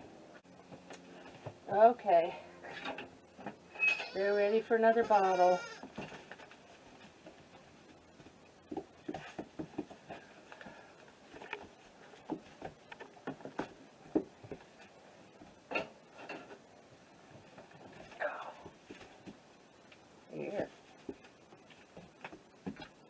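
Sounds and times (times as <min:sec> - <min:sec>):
rustling: 0:00.4 - 0:23.0.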